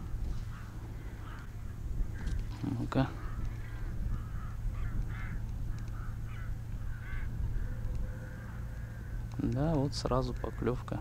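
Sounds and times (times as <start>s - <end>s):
birds calling: 0.0s - 11.0s
wind rumble on microphone: 0.0s - 11.0s.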